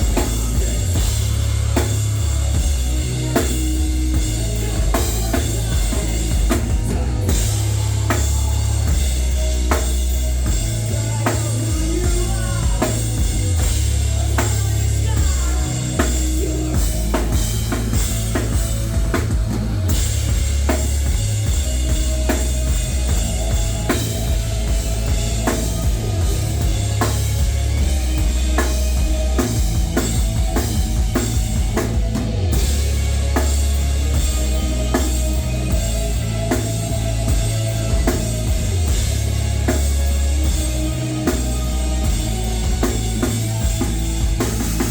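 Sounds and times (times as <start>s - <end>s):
rock band playing loud: 0.0s - 44.9s.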